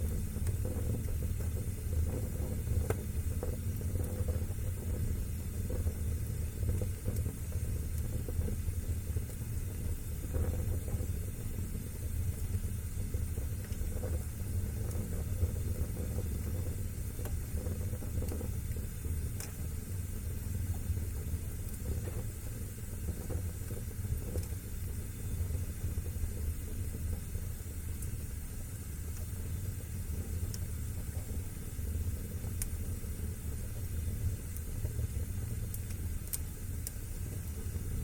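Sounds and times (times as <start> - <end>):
fire crackling: 0.0 - 38.0
low rumble of flame: 0.0 - 38.0.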